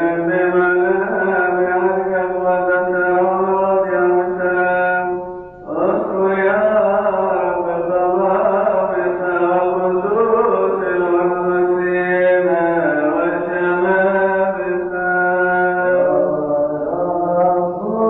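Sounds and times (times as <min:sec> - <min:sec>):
liturgical chanting: 0:00.0 - 0:18.0.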